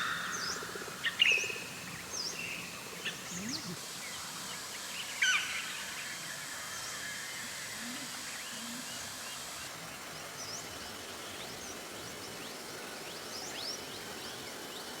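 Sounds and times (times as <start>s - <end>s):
steady rainforest hiss: 0.0s - 15.0s.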